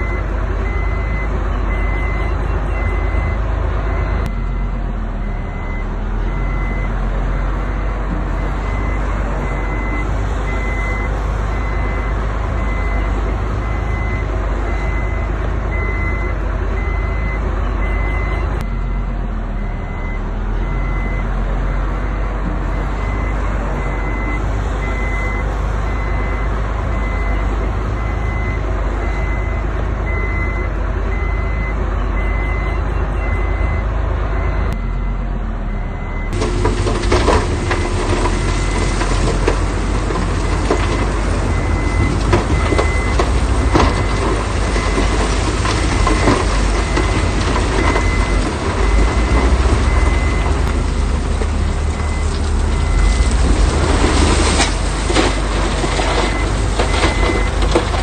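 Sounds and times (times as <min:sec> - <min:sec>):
reversing alarm beeping: 0:00.0 - 0:50.7, 0:51.9 - 0:55.3, 0:55.9 - 0:57.9
heavy diesel machinery running: 0:00.0 - 0:58.0.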